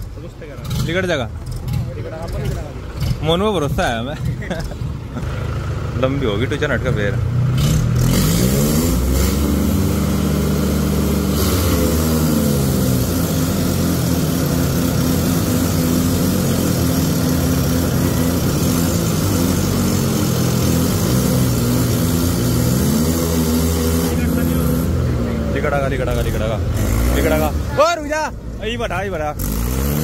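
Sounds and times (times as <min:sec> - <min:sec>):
diesel tractors straining: 0:00.0 - 0:30.0.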